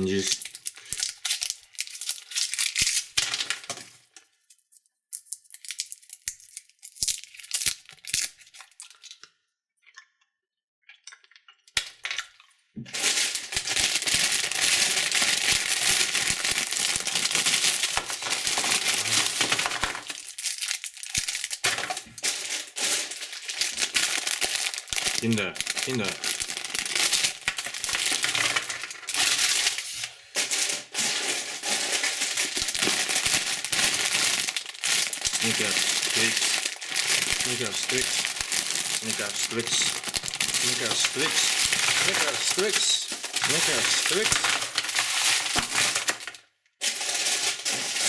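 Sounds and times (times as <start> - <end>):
plastic wrappers crinkling: 0.0 - 9.3, 12.9 - 48.0.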